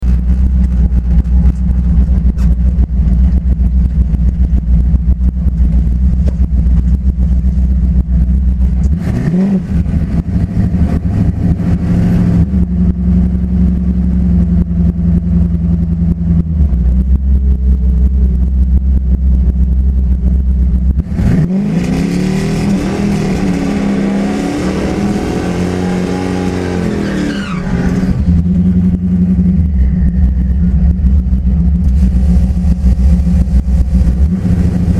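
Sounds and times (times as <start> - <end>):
drag car engine rumbling and revving: 0.0 - 34.9.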